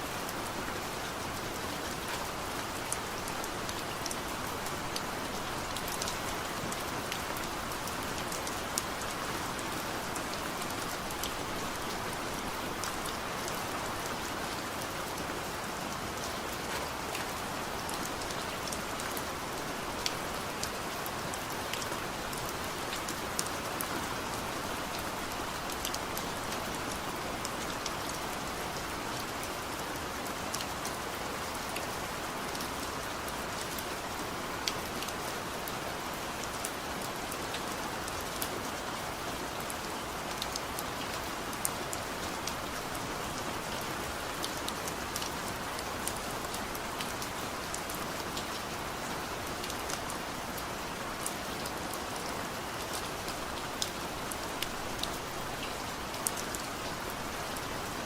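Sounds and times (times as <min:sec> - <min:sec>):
heavy rain on hard surface: 0:00.0 - 0:58.0.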